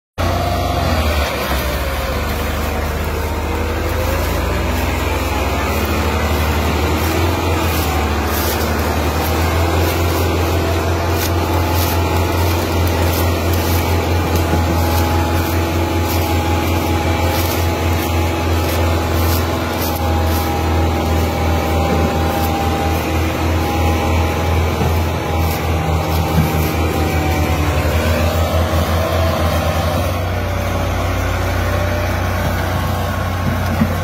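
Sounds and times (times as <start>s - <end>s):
tractor diesel engine straining: 0.2s - 34.0s.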